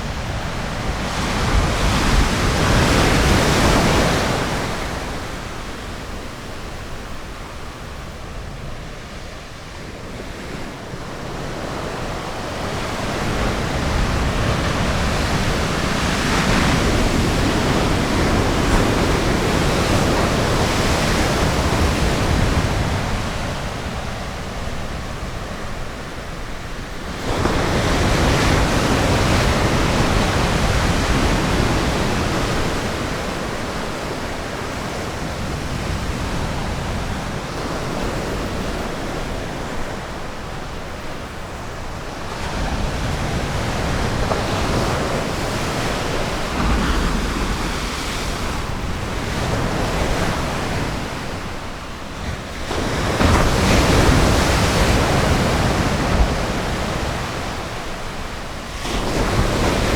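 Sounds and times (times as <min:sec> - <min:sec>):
ocean waves washing on beach: 0:00.0 - 0:59.9.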